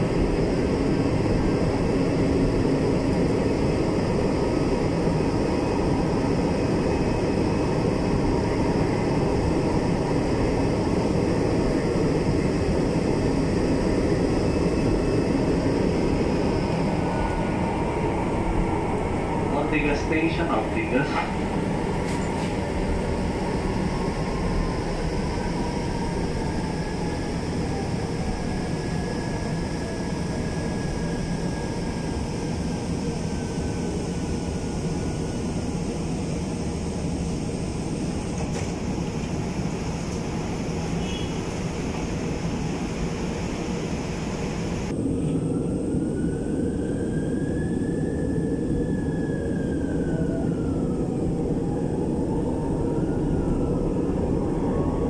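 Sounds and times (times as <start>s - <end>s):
train running rumble on track: 0.0s - 55.0s.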